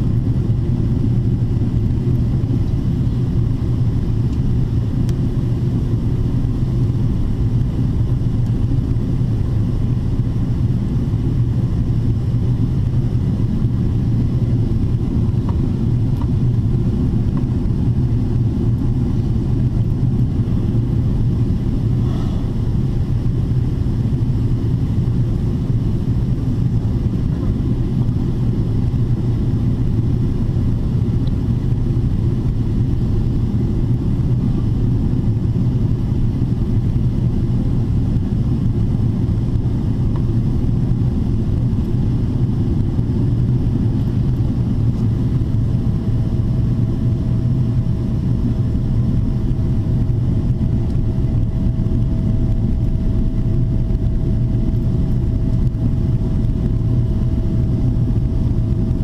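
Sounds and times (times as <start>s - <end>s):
airplane cabin drone: 0.0s - 59.0s
faint steady whine: 0.0s - 59.0s.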